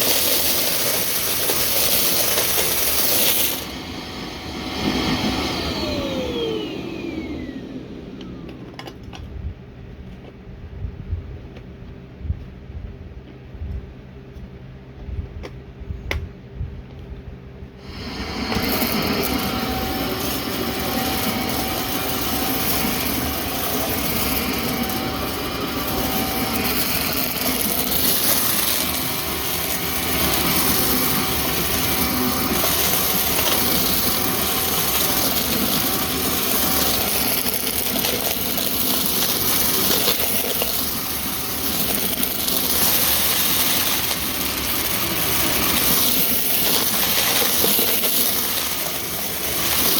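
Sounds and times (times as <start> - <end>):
vacuum cleaner running: 0.0 - 9.4, 17.7 - 49.9.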